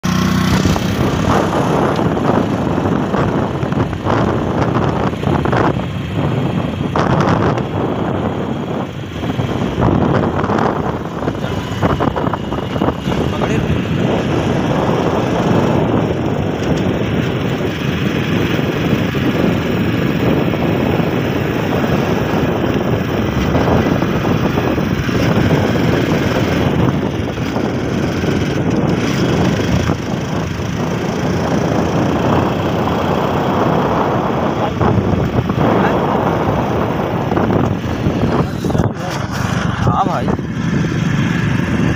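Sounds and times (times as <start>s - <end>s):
vehicle engine and tyre noise: 0.0s - 41.9s
wind rushing over microphone: 0.0s - 41.9s.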